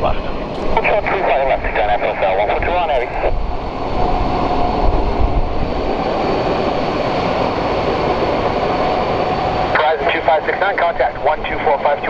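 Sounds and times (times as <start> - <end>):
deep low rumble: 0.0 - 9.7
jet engines rushing: 0.0 - 12.0
thin steady whine: 0.0 - 12.0.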